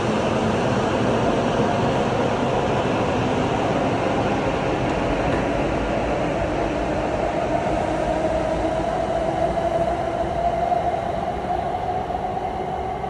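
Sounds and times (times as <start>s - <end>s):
rising train whine: 0.0s - 13.0s
train running noise: 0.0s - 13.0s.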